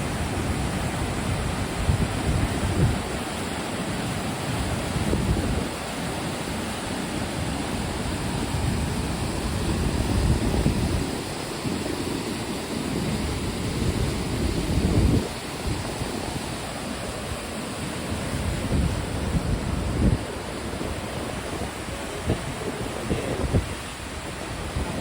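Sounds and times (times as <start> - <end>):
wind buffeting microphone: 0.0 - 3.4, 4.0 - 5.9, 7.3 - 17.4, 18.0 - 25.0
waterfall roaring: 0.0 - 25.0.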